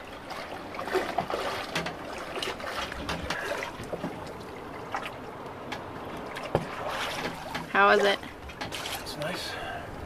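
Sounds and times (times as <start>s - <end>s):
water splashing and lapping: 0.0s - 10.0s.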